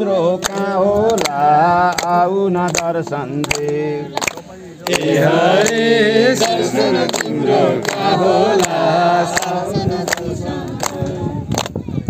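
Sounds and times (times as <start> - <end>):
group singing devotional song: 0.0 - 11.6
handclaps: 0.4 - 11.9.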